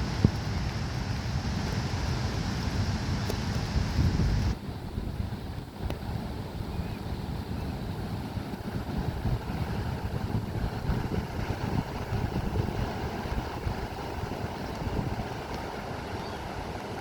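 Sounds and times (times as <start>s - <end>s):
ocean surf washing on beach: 0.0s - 17.0s
wind buffeting microphone: 0.0s - 17.0s.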